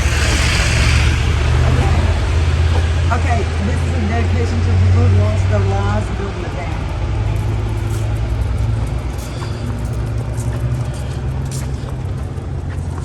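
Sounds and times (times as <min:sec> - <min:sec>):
outdoor noise: 0:00.0 - 0:13.0
steady low rumble: 0:00.0 - 0:13.0.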